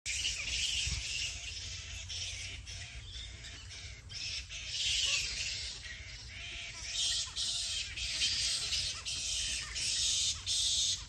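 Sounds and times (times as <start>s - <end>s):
bats chattering: 0.1s - 11.0s.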